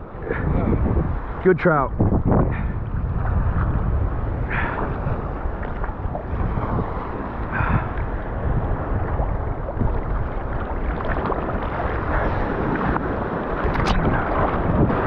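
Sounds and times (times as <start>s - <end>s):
surf water sloshing: 0.0s - 15.0s
wind on microphone: 0.0s - 15.0s.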